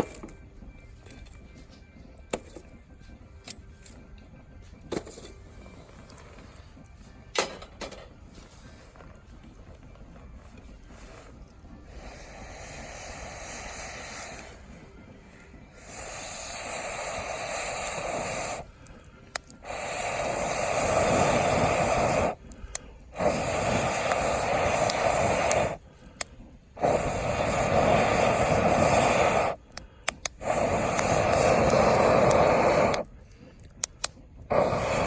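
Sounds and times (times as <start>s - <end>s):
air blowing into a campfire: 4.5s - 7.2s, 8.2s - 35.0s.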